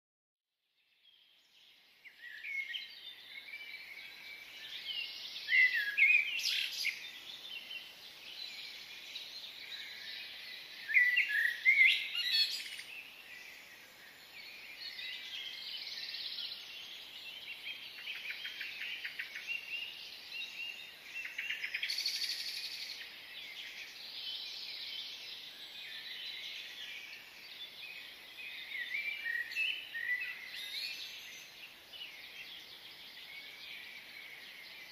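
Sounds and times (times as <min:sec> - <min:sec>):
birds chirping and singing: 0:01.0 - 0:34.9.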